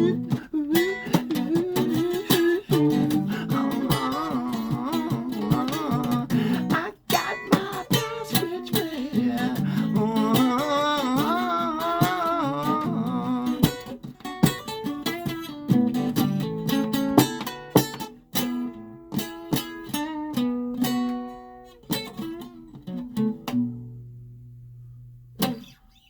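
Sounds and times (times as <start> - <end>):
guitar strumming: 0.0 - 26.0.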